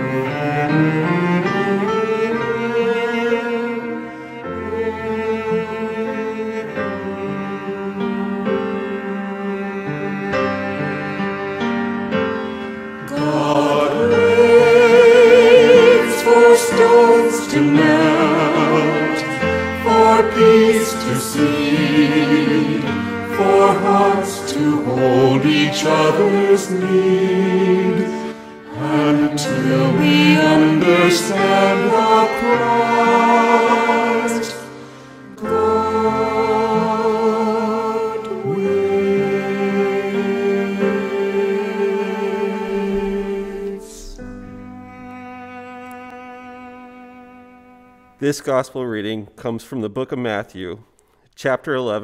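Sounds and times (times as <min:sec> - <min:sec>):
person singing a hymn with vibrato: 0:00.0 - 0:11.6, 0:12.9 - 0:48.1
sustained instrumental accompaniment: 0:00.0 - 0:49.0.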